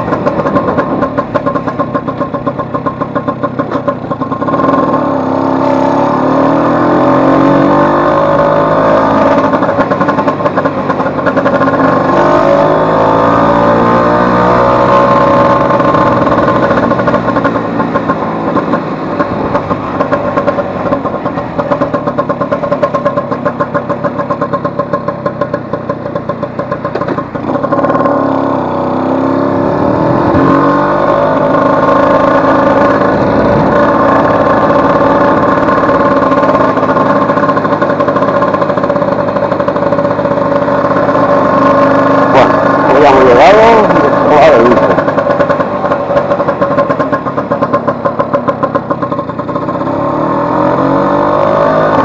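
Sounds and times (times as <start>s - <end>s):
two-stroke scooter engine revving: 0.0s - 52.0s.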